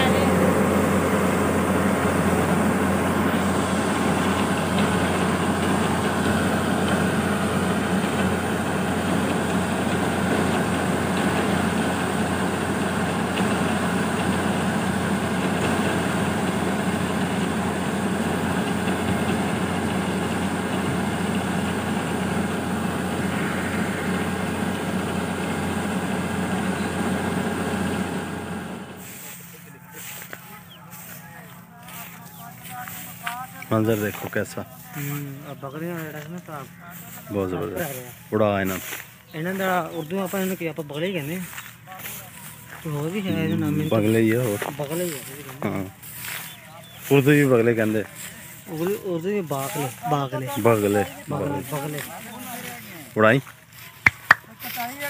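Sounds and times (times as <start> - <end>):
heavy machine engine drone: 0.0 - 54.8.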